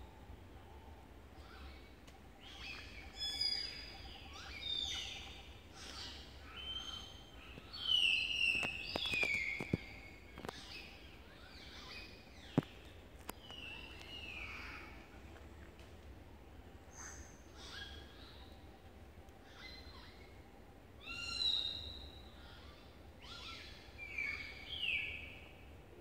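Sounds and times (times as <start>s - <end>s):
forest birds calling: 0.0s - 26.0s.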